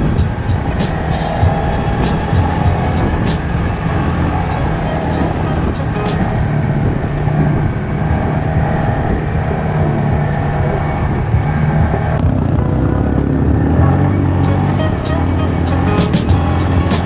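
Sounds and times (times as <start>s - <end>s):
quad bike engine droning: 0.0s - 17.0s.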